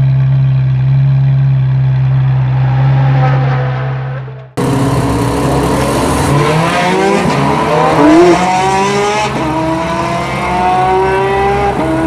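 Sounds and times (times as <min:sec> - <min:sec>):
car engine accelerating: 0:00.6 - 0:12.0.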